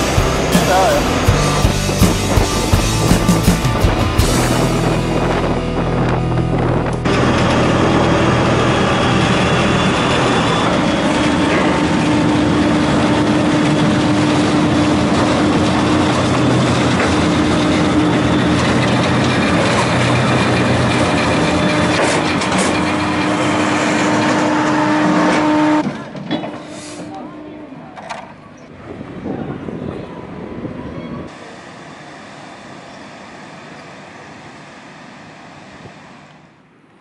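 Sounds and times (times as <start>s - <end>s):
ferry engines droning: 0.0s - 37.0s.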